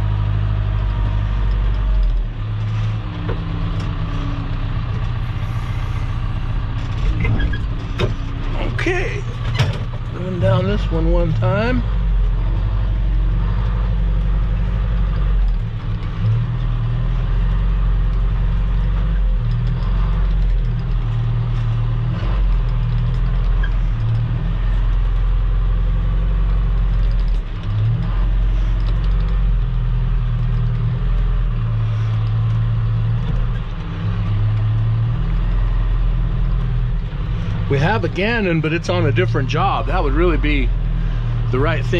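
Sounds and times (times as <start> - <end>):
earthmoving machine engine droning: 0.0 - 41.9.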